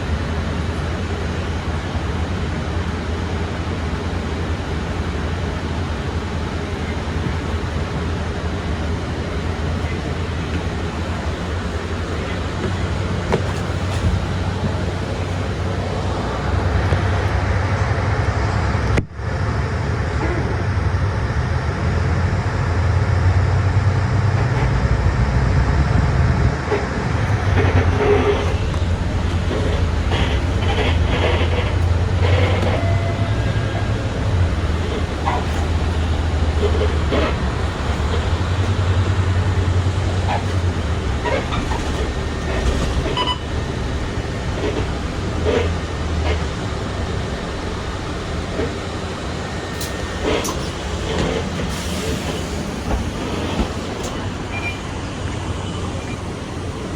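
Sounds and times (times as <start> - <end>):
bus engine drone: 0.0 - 56.9
road noise: 0.0 - 56.9.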